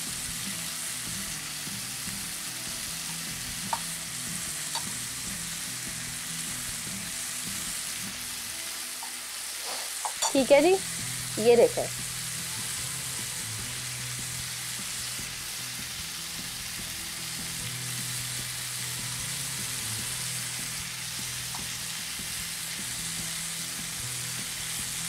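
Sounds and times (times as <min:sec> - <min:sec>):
meat sizzling in a grill pan: 0:00.0 - 0:25.0.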